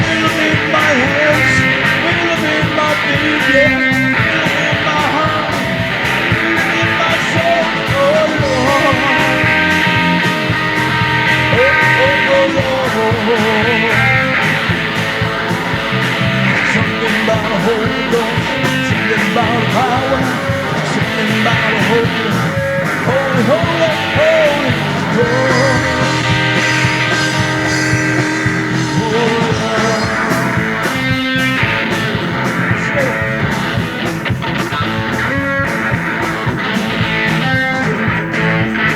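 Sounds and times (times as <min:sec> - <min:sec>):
band music with guitars and bass: 0:00.0 - 0:38.9
wavering instrumental lead line: 0:00.0 - 0:38.9.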